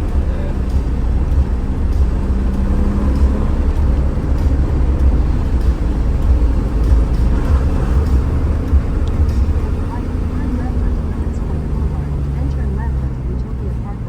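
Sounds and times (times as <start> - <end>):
car engine low exhaust rumble: 0.0 - 14.0.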